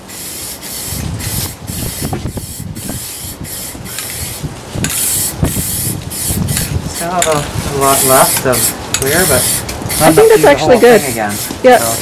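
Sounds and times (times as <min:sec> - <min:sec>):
aerosol can spraying: 0:00.1 - 0:12.0.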